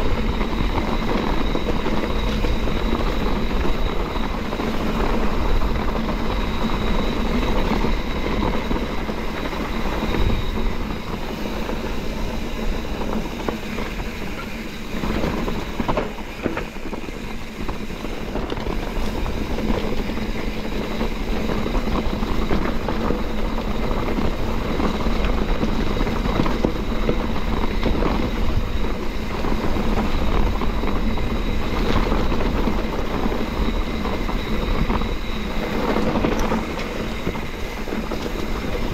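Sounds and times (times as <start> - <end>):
bike rattling: 0.0 - 38.9
wind rushing over microphone: 0.0 - 38.9.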